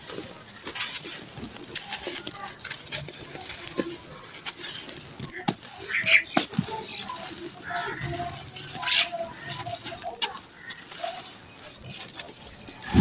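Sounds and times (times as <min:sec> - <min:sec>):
dry chunks crushing and crumbling: 0:00.0 - 0:13.0.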